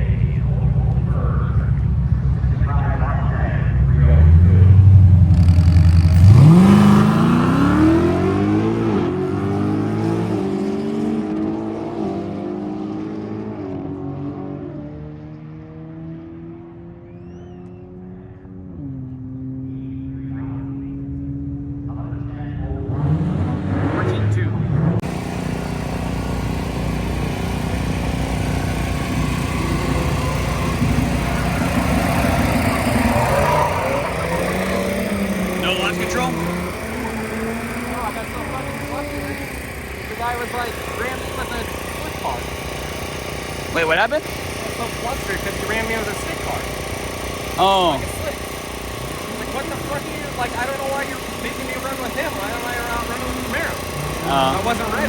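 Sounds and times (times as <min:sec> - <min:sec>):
drag car engine revving: 0:00.0 - 0:55.0.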